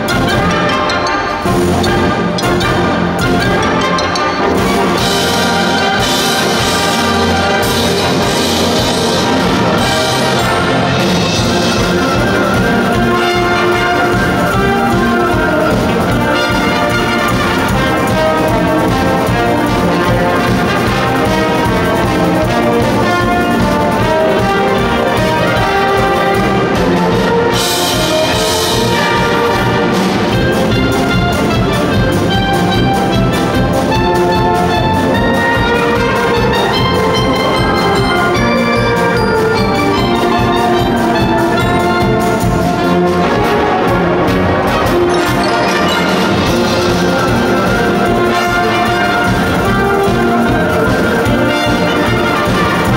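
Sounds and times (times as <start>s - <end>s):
drum kit beat: 0.0s - 52.9s
wind band playing: 0.0s - 52.9s.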